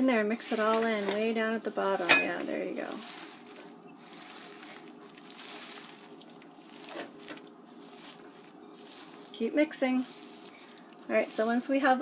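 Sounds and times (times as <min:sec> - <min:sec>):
hands kneading raw meat: 0:00.1 - 0:12.0.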